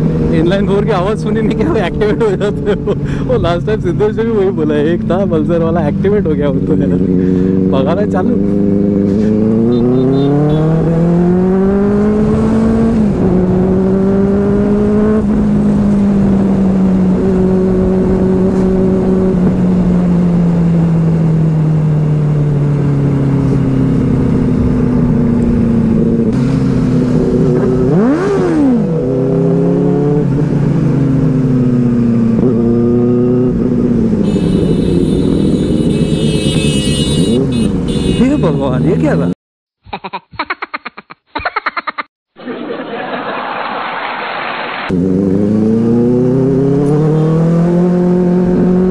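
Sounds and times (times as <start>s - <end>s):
motorcycle engine accelerating: 0.0s - 39.3s, 44.9s - 48.9s.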